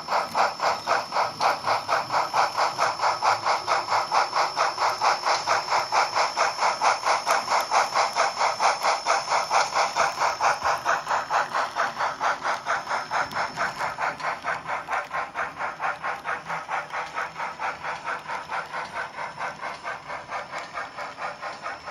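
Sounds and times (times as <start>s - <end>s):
model locomotive steam chuff: 0.0s - 21.9s.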